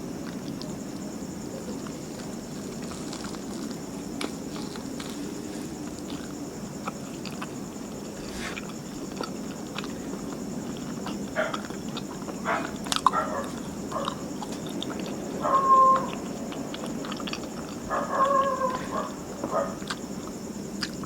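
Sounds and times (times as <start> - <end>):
chewing close-up: 0.1 - 21.0.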